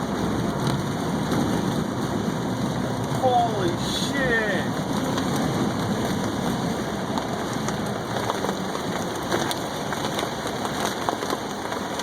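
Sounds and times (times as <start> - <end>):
heavy rain on a car: 0.0 - 12.0
sharp raindrop hits: 0.0 - 12.0.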